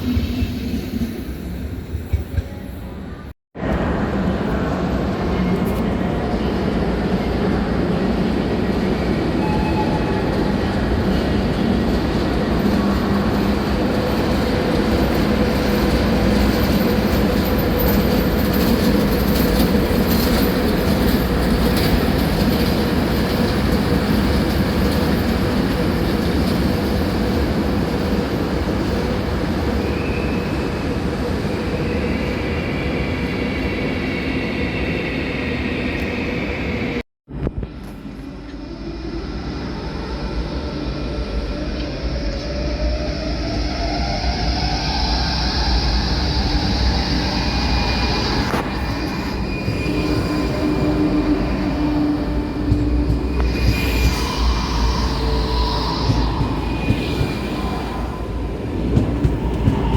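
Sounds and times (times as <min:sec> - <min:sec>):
train wheels rumbling on rails: 0:00.0 - 0:33.9, 0:34.6 - 0:59.9.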